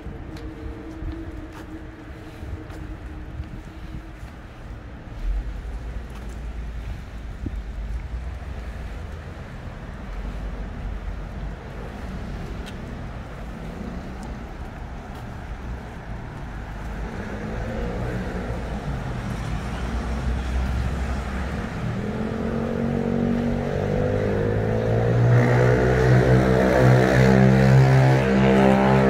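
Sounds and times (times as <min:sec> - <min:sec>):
street traffic noise: 0:00.0 - 0:29.0
vehicle engine hum approaching: 0:00.0 - 0:29.0.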